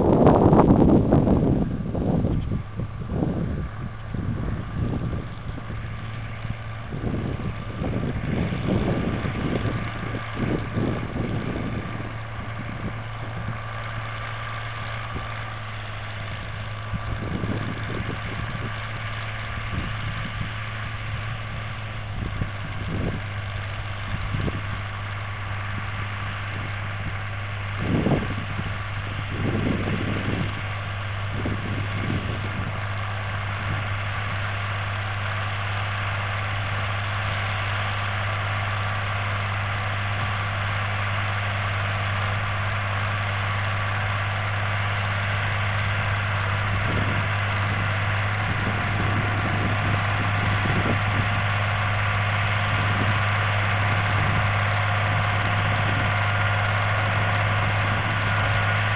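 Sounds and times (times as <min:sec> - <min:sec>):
wind buffeting microphone: 0:00.0 - 0:34.4, 0:45.4 - 0:58.9
tractor engine running under load: 0:00.0 - 0:58.9.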